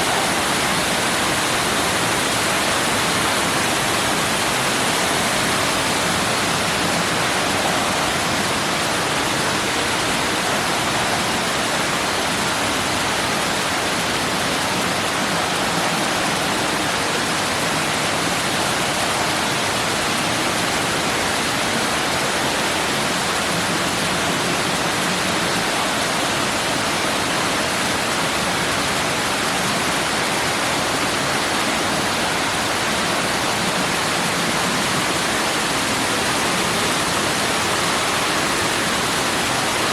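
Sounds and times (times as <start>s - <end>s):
water rushing into a pond: 0.0s - 39.9s.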